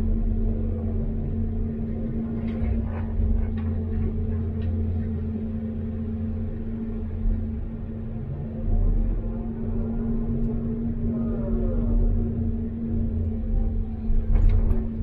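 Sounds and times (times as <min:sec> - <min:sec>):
excavator diesel engine humming: 0:00.0 - 0:15.0.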